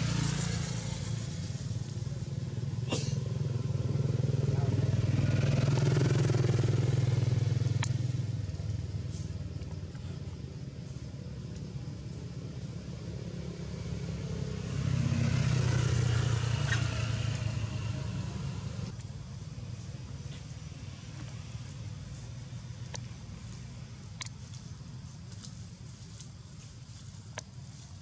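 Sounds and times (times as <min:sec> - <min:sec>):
motor vehicle engine running: 0:00.0 - 0:28.0.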